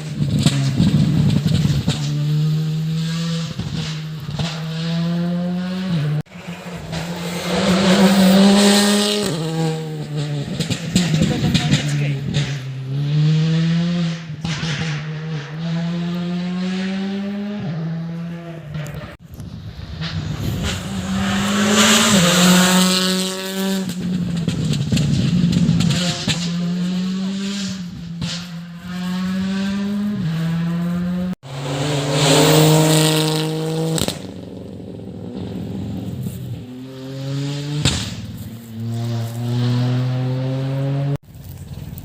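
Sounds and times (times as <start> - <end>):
rally car engine at full throttle: 0.0 - 42.0.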